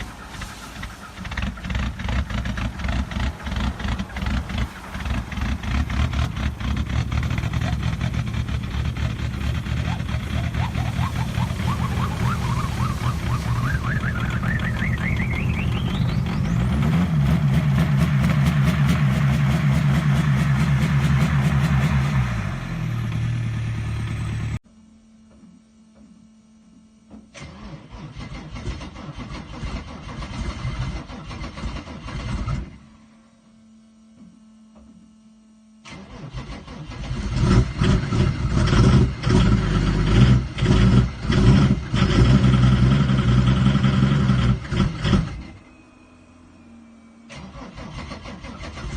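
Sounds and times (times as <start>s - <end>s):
engine starting and running: 0.0s - 24.6s, 26.9s - 48.9s.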